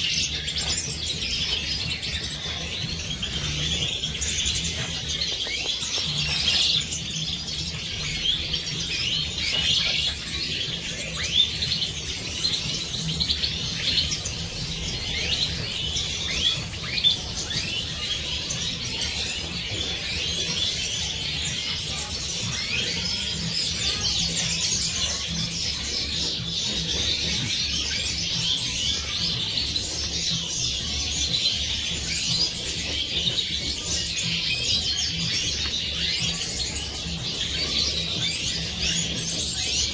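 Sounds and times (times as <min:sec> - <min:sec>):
finches twittering and chirping: 0:00.0 - 0:39.9.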